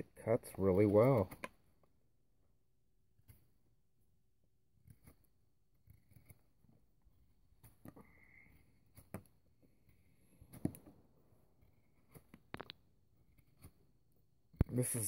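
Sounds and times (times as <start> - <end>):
knife shaving wooden stick: 0.1 - 15.0.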